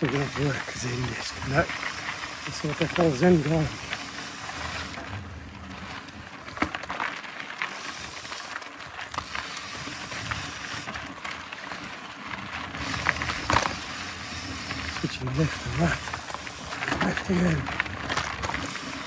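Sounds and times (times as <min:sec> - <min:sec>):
bike chain and frame rattling: 0:00.0 - 0:19.0
bike tyres rolling on dirt: 0:00.0 - 0:19.0
clicks and knocks over bumps: 0:00.0 - 0:19.0.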